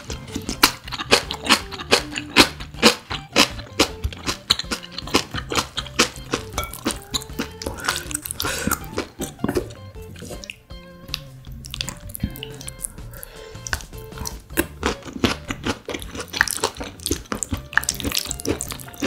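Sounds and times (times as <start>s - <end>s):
crunching and chewing: 0.0s - 19.0s
quiet background music: 0.0s - 19.0s.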